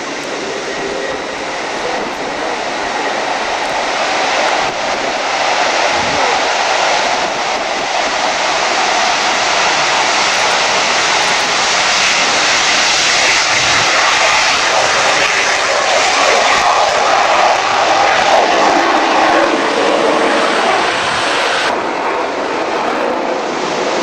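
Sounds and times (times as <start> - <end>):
loud jet engine roar: 0.0 - 24.0.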